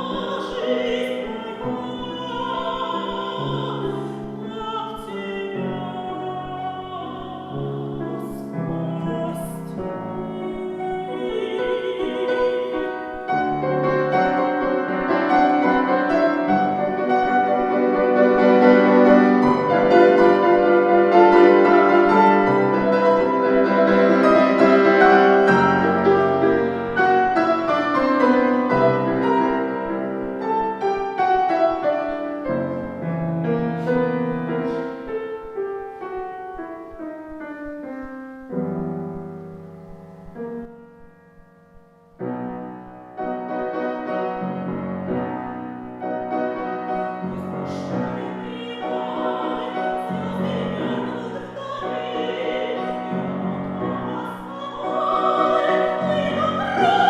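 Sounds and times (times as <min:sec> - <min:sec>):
classical piano playing: 0:00.0 - 0:57.0.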